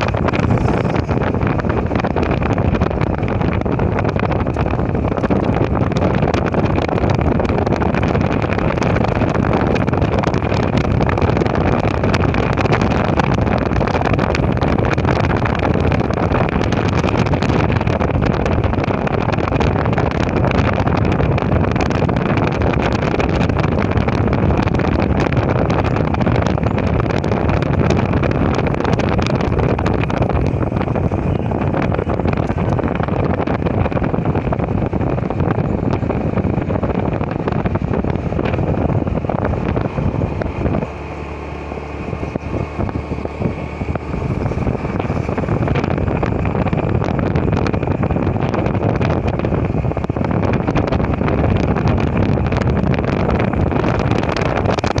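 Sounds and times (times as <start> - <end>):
motorcycle engine: 0.0 - 55.0
road noise: 0.0 - 55.0
wind buffeting microphone: 0.0 - 55.0.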